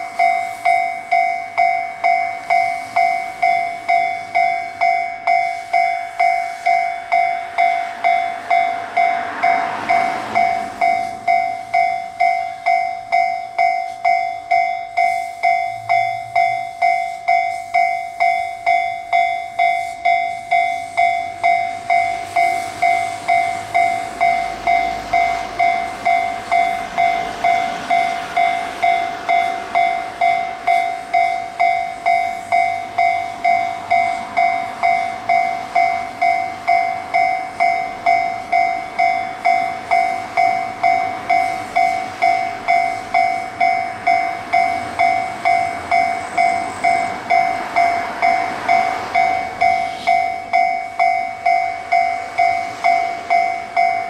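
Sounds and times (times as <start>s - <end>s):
level-crossing warning bell: 0.0s - 54.0s.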